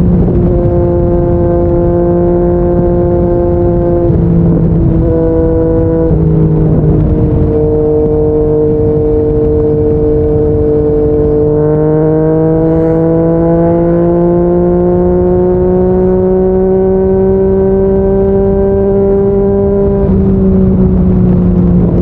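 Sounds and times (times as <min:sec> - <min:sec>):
motorcycle engine revving: 0:00.0 - 0:22.0
wind and road noise: 0:00.0 - 0:22.0.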